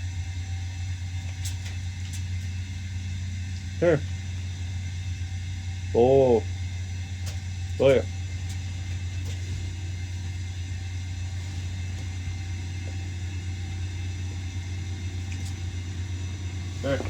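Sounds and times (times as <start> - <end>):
vehicle engine idling: 0.7 - 17.0.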